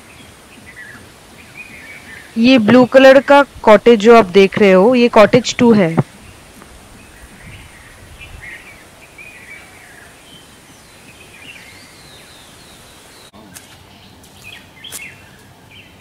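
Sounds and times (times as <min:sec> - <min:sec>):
birds chirping and calling: 0:00.0 - 0:04.6, 0:05.2 - 0:16.0
faint steady hiss: 0:00.0 - 0:16.0.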